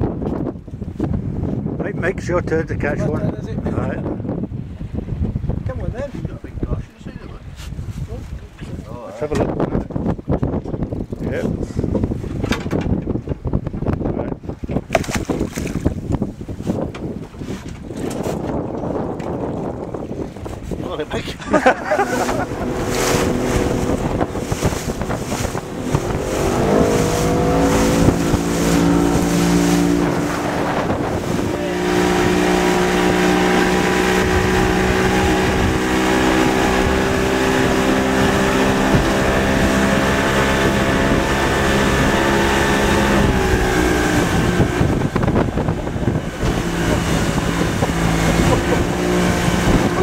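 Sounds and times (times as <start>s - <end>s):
boat engine running: 0.0s - 50.0s
wind buffeting microphone: 0.0s - 50.0s.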